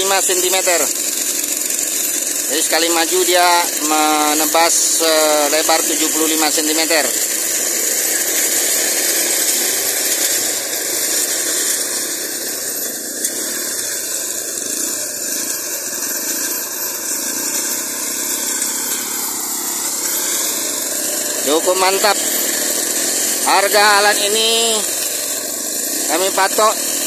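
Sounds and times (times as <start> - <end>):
brush cutter engines running: 0.0 - 27.0.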